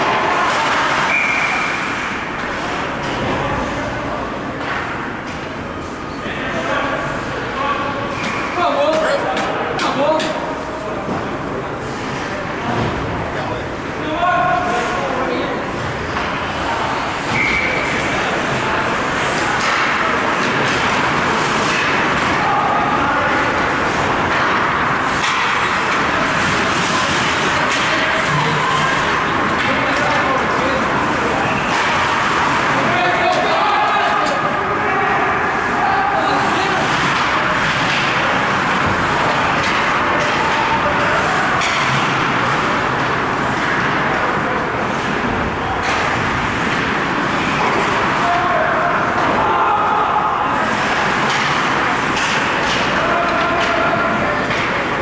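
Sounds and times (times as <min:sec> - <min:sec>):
arena crowd din: 0:00.0 - 0:55.0
indistinct voices: 0:00.0 - 0:55.0.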